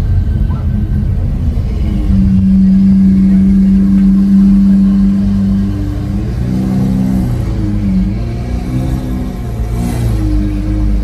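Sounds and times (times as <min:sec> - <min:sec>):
sports car engine: 0:00.0 - 0:11.0.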